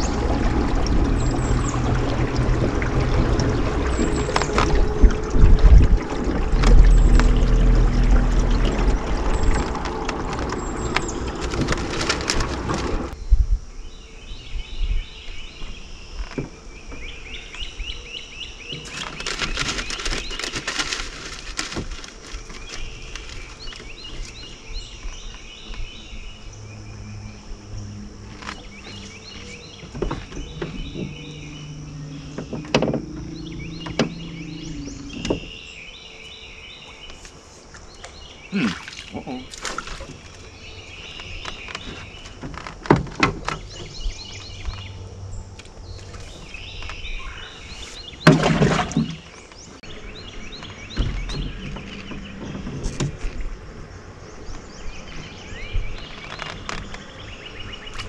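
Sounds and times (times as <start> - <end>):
clicks and knocks from boat: 0.0 - 13.2, 15.6 - 17.7, 18.7 - 26.0, 28.2 - 35.7, 36.8 - 45.0, 45.6 - 58.0
birds singing: 0.0 - 58.0
water and wind rushing: 0.0 - 58.0.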